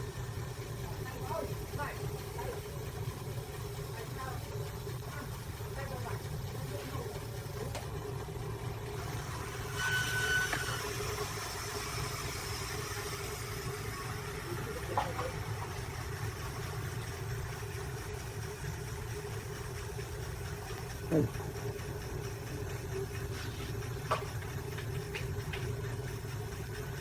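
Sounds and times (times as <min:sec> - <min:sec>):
wood lathe motor hum: 0:00.0 - 0:27.0.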